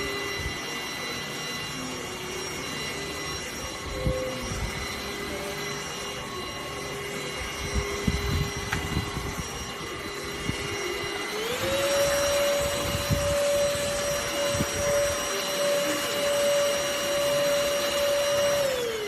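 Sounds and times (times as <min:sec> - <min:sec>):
handheld vacuum cleaner whine: 0:00.0 - 0:19.0.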